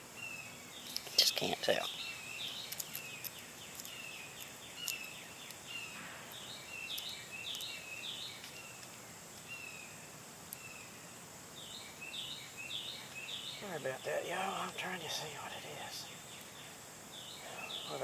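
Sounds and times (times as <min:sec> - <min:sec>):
birds chirping: 0:00.0 - 0:18.0
high insect drone: 0:00.0 - 0:18.0.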